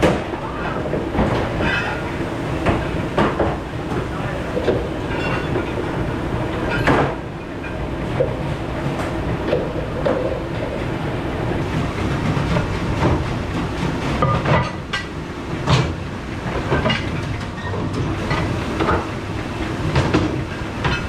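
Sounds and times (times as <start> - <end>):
low machine rumble: 0.0 - 21.0.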